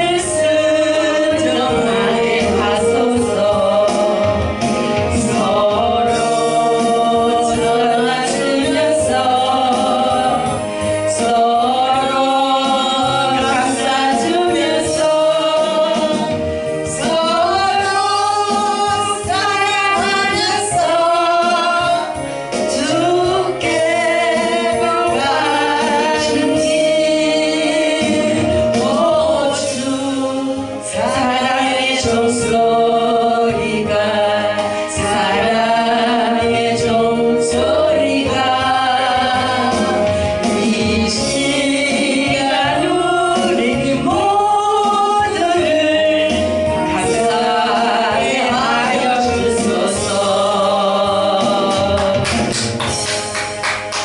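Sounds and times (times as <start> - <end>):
musical accompaniment: 0.0 - 54.0
two voices singing in harmony: 0.0 - 54.0.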